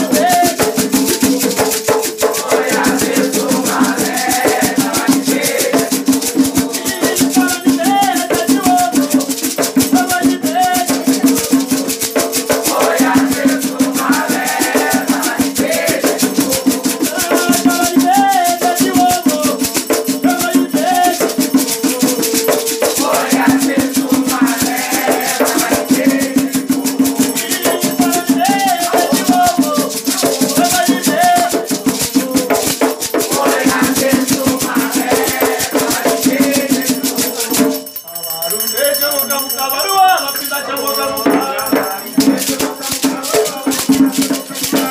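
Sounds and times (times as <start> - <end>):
voices singing a chant: 0.0 - 38.2, 39.0 - 44.9
fast shaker rhythm: 0.0 - 44.9
percussion: 0.0 - 44.9.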